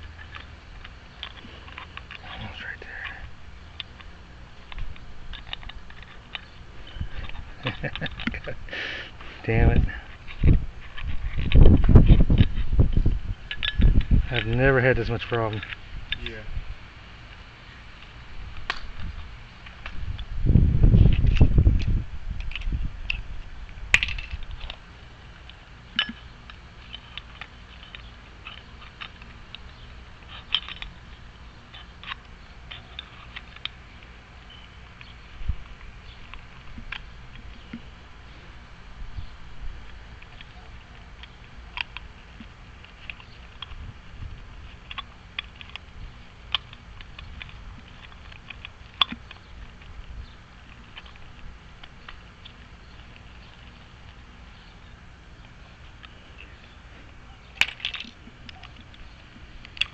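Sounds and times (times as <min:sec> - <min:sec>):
metallic clicks of lock parts: 0:00.0 - 0:08.6, 0:09.7 - 0:14.6, 0:15.2 - 0:16.3, 0:18.0 - 0:20.3, 0:21.0 - 0:37.9, 0:39.9 - 0:59.9.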